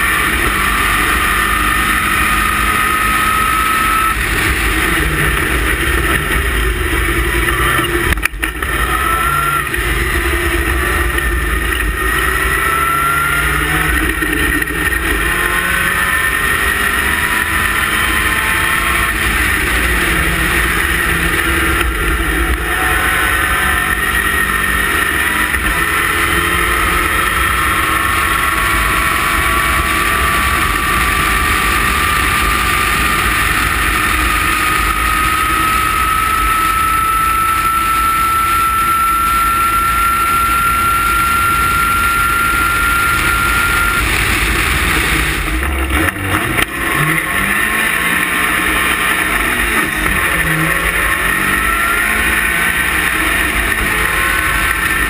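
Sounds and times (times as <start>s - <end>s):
sports car engine at high revs: 0.0s - 55.0s.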